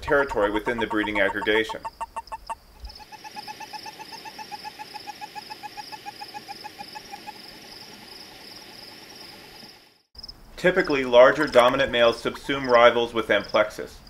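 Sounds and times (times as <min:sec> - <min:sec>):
toad rapid chirps: 0:00.0 - 0:09.3, 0:10.8 - 0:12.9
high insect trill: 0:00.8 - 0:13.8.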